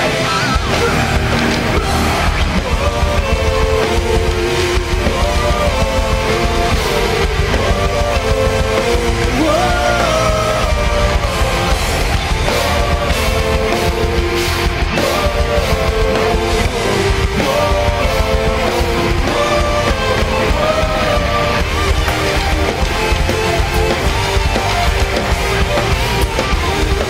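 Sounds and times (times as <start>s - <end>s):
distorted electric guitars: 0.0s - 27.0s
drums: 0.0s - 27.0s
melodic guitar lead line: 0.0s - 27.0s.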